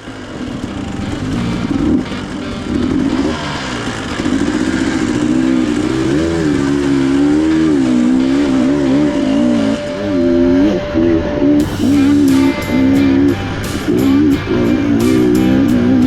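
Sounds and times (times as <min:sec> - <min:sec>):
two-stroke dirt bike engine revving: 0:00.0 - 0:16.0.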